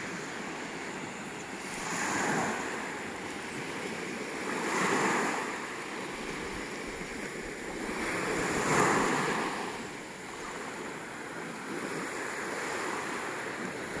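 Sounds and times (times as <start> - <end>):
small waves washing onto beach: 0.0 - 14.0.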